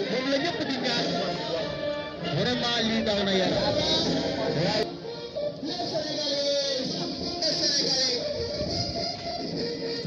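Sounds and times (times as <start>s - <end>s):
song with steady accompaniment: 0.0s - 10.0s.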